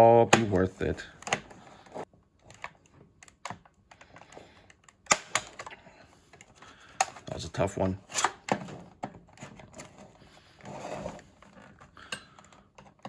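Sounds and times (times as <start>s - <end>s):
tools clicking and scraping plastic: 1.0s - 13.0s.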